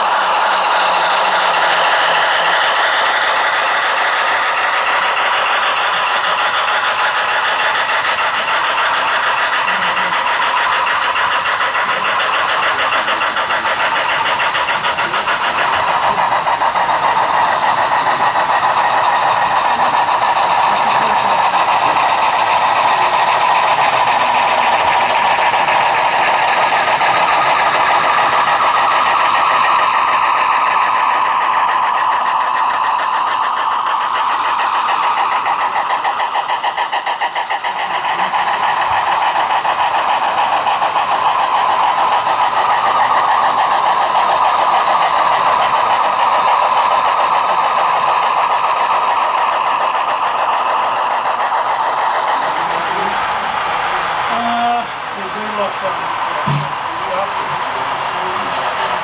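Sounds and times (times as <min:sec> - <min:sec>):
model train running: 0:00.0 - 0:59.0.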